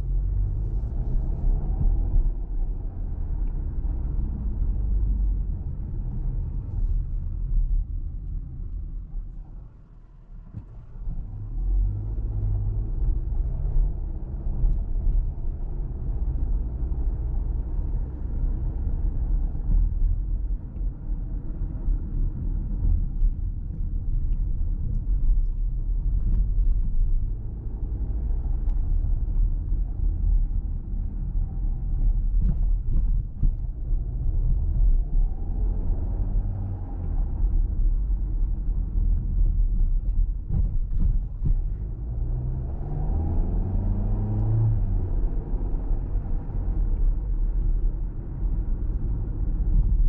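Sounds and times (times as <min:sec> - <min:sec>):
car cabin road and engine rumble: 0:00.0 - 0:50.0.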